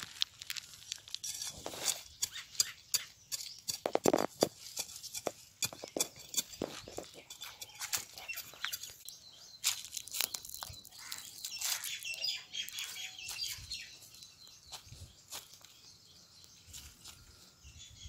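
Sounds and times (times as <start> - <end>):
birds chirping: 1.4 - 18.0.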